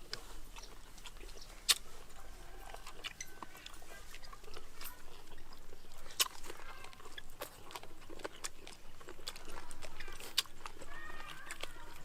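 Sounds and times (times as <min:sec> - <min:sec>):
person chewing meat: 0:00.0 - 0:12.0.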